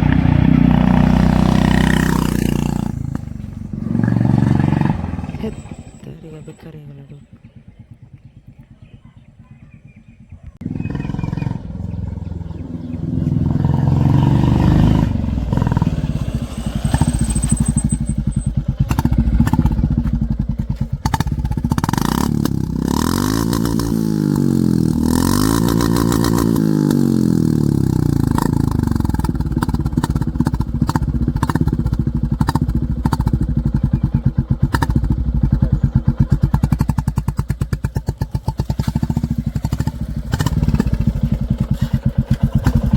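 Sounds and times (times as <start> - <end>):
motorcycle engine thumping exhaust: 0.0 - 6.1, 7.1 - 42.9.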